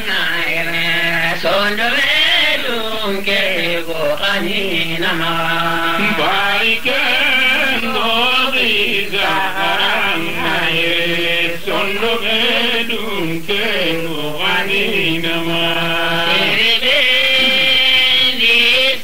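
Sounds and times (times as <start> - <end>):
person chanting: 0.0 - 19.0.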